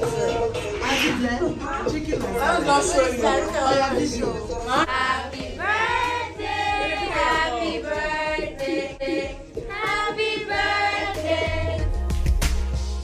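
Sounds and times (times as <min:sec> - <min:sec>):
voices singing together: 0:00.0 - 0:12.1.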